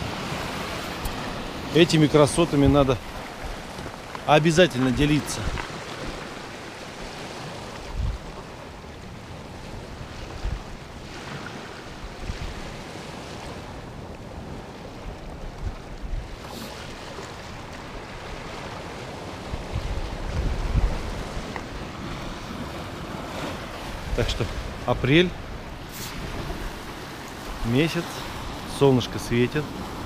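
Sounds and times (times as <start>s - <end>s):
wind buffeting microphone: 0.0s - 28.7s
surf washing over rocks: 0.0s - 30.0s.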